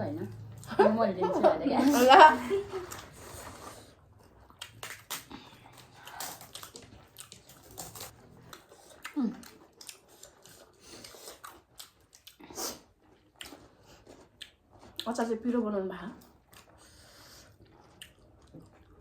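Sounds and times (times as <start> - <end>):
quiet chewing: 2.6 - 15.6, 16.2 - 19.0.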